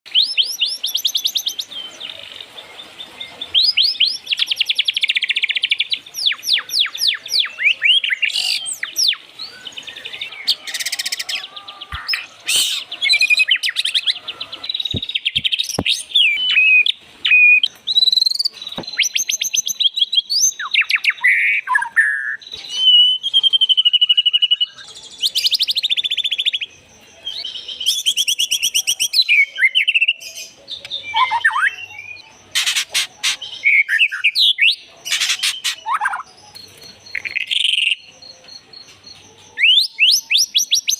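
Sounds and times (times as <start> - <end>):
bird singing varied song: 0.1 - 40.9.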